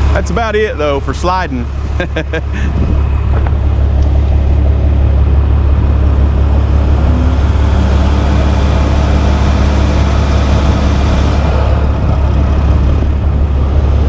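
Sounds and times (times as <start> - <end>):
heavy engine rumble: 0.0 - 14.0.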